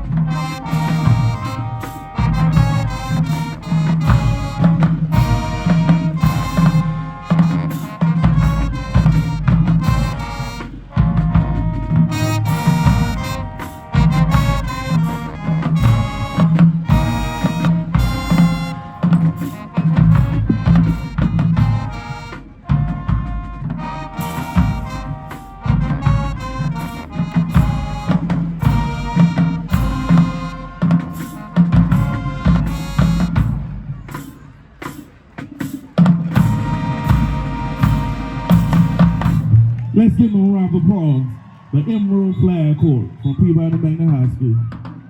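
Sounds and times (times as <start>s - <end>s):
drums with sharp accented hits: 0.0s - 39.9s
marching band brass melody: 0.0s - 45.0s.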